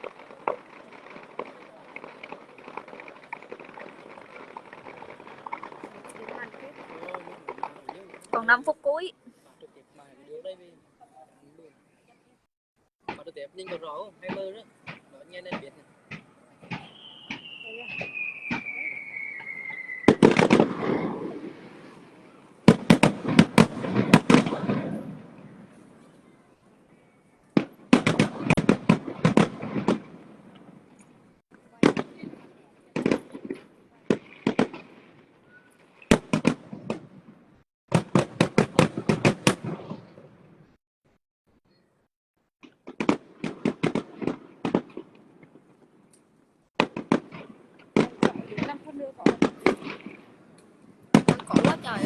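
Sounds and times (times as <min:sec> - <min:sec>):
fireworks bangs: 0:00.0 - 0:09.0, 0:13.0 - 0:40.8, 0:42.6 - 0:46.1, 0:46.7 - 0:52.0.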